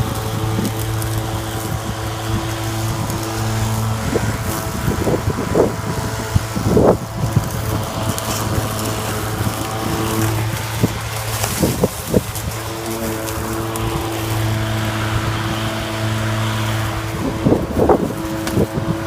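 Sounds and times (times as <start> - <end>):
lawn mower humming: 0.0 - 19.0
mower blade cracking stems: 0.0 - 19.0.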